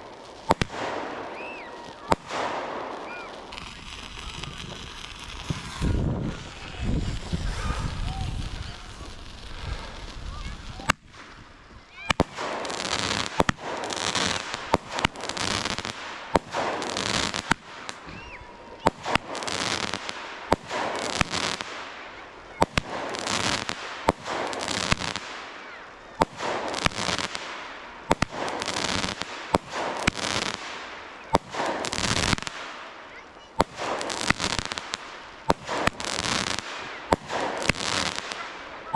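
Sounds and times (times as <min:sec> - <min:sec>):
fireworks banging: 0:00.0 - 0:38.9
fireworks hissing burst: 0:00.0 - 0:38.9.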